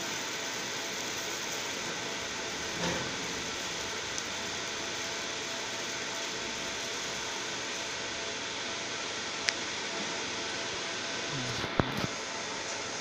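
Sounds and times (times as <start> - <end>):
fan-like whir: 0.0 - 13.0.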